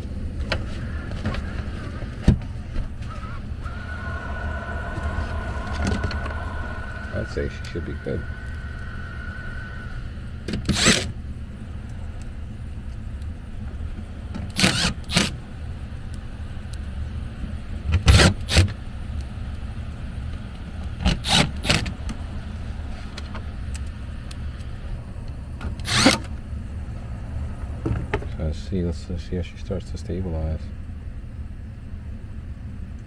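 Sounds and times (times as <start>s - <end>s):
low hvac hum: 0.0s - 33.0s.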